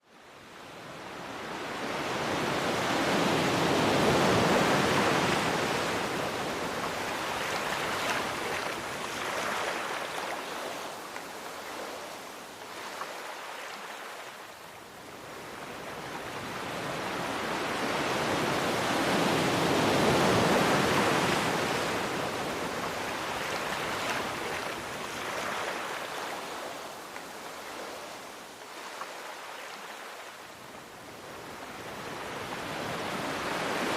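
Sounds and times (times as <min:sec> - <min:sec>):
sea waves washing on shore: 0:00.2 - 0:33.9.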